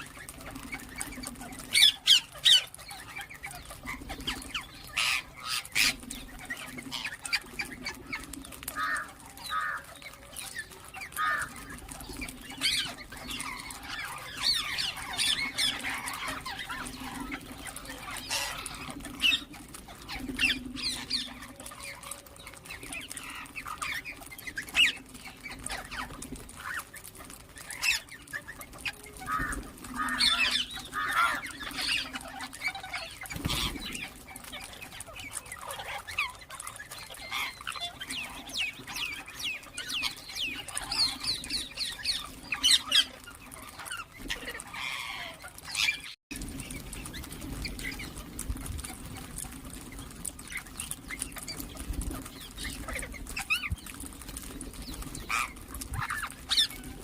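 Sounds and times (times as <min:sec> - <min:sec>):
parakeets squawking and chirping: 0:00.0 - 0:57.0.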